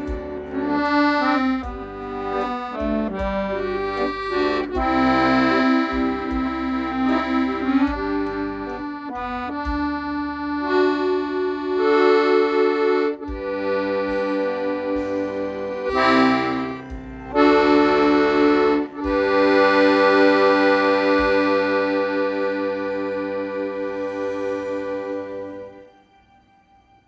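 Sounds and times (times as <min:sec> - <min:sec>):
accordion melody: 0:00.0 - 0:26.4.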